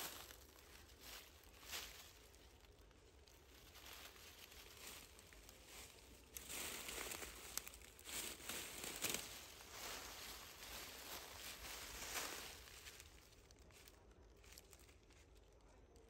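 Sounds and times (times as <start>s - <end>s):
dry leaves rustling: 0.0s - 15.7s.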